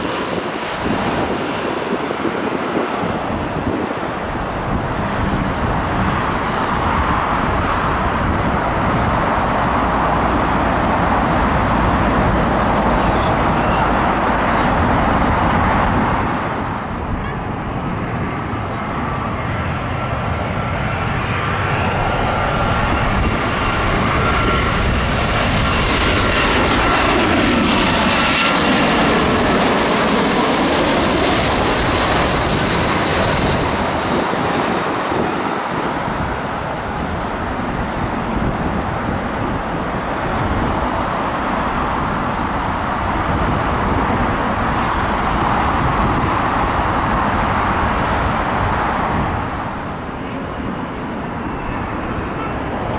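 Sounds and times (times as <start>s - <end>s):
jet airliner engines whining: 0.0s - 52.9s.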